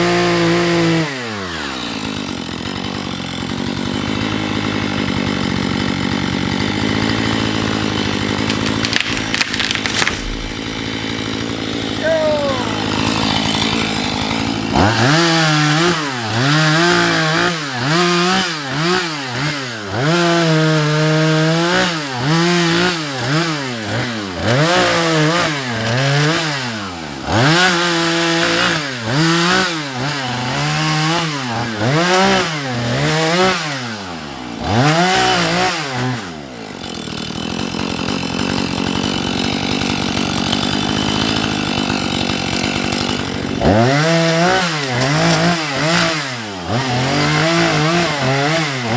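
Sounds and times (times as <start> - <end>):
chainsaw cutting into tree: 0.0 - 48.9.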